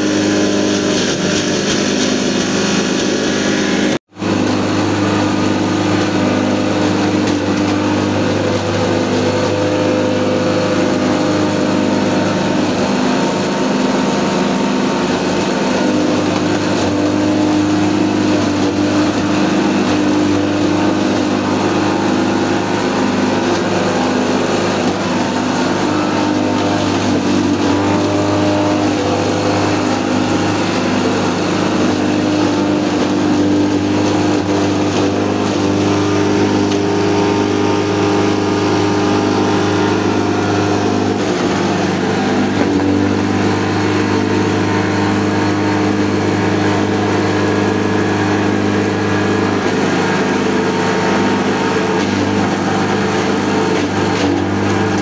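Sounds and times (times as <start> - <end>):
dense grinding noise: 0.0 - 55.0
machine hum: 0.0 - 55.0.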